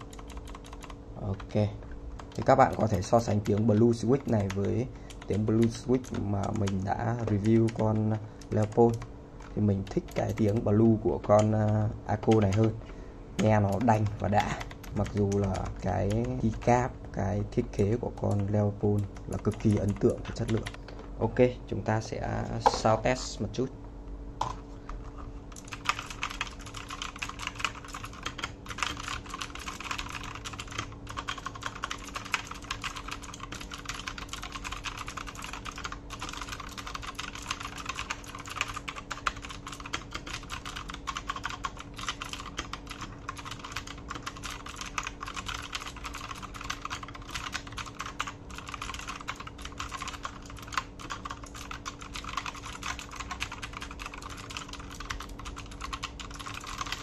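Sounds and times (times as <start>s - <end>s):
mechanical keyboard typing: 0.0s - 12.8s, 13.4s - 16.9s, 17.7s - 20.8s, 25.5s - 57.0s.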